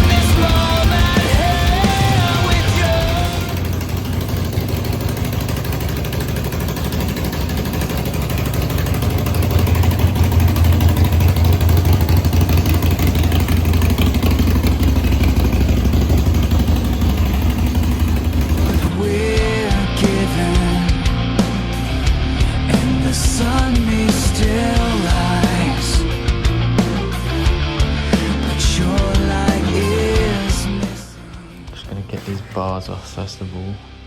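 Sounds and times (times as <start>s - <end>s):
motorcycle engine running: 0.0s - 33.3s.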